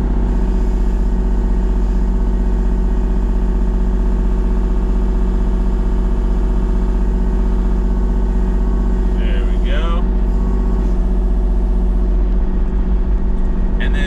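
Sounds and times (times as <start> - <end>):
diesel engine humming steadily: 0.0 - 14.0.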